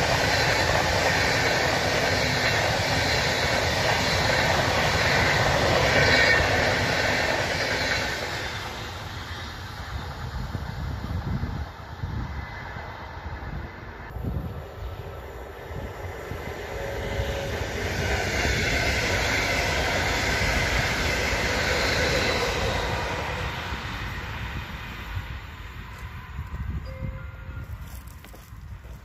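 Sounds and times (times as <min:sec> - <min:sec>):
train passing with rushing noise: 0:00.0 - 0:29.0.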